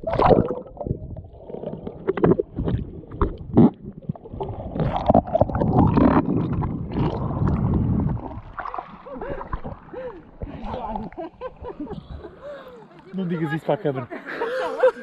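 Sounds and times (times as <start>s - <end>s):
muffled underwater water rush: 0.0s - 12.4s.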